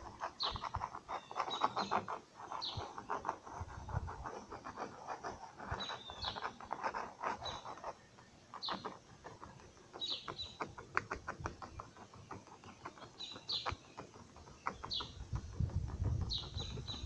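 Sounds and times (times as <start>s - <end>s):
metal tool scratching sheet: 0.0s - 17.0s
bird chirps: 0.2s - 3.4s, 5.6s - 17.0s.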